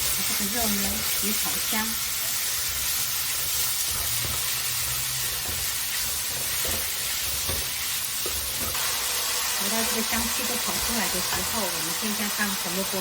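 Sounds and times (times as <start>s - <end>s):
pork sizzling in hot oil: 0.0s - 13.0s.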